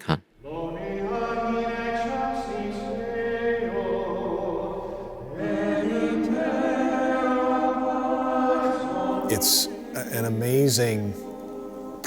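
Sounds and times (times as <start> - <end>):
choir singing a chant: 0.4 - 12.0.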